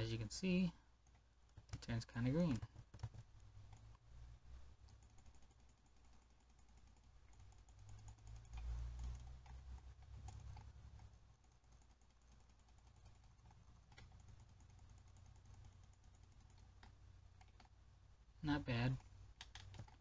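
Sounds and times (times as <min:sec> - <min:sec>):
mouse and keyboard clicking: 0:01.0 - 0:04.0, 0:04.8 - 0:17.8, 0:18.9 - 0:20.0.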